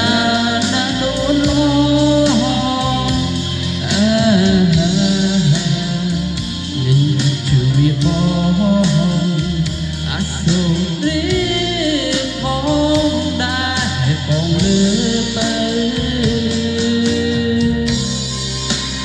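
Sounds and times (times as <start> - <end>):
bass: 0.0 - 19.0
guitar: 0.0 - 19.0
person singing: 0.0 - 19.0.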